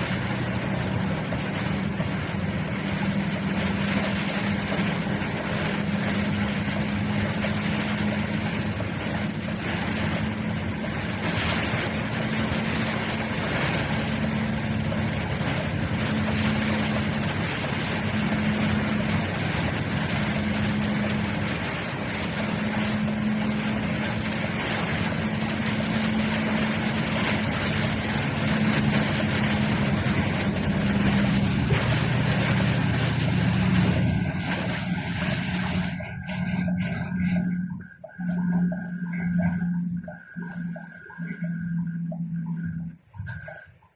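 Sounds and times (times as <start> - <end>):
rain and spray hissing: 0.0 - 39.7
vehicle engine and tyres drone: 0.0 - 43.9.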